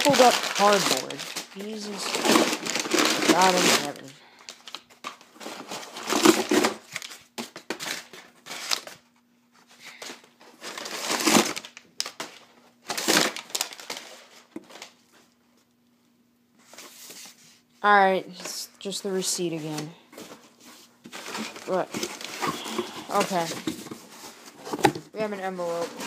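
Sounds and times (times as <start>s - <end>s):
cardboard packing rustling: 0.0s - 15.4s, 16.6s - 26.0s.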